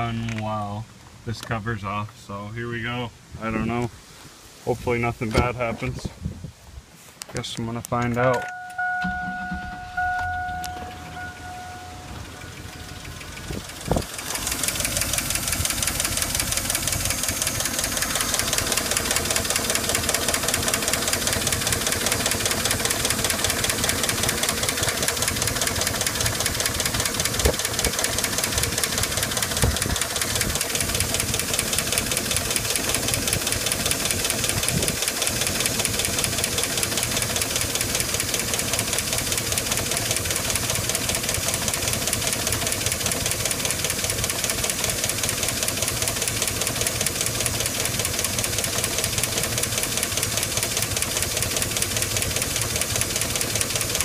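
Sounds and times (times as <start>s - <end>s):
engine idling: 8.5s - 54.0s
valvetrain rapid ticking: 8.5s - 54.0s.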